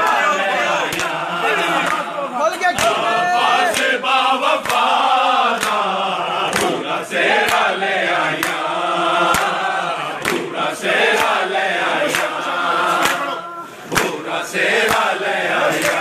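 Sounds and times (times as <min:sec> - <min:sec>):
men chanting: 0:00.0 - 0:16.0
unison handclaps: 0:00.8 - 0:02.1, 0:02.7 - 0:16.0.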